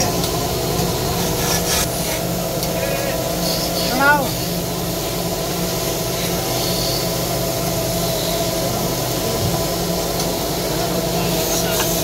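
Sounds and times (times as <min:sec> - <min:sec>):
wood lathes humming: 0:00.0 - 0:12.0.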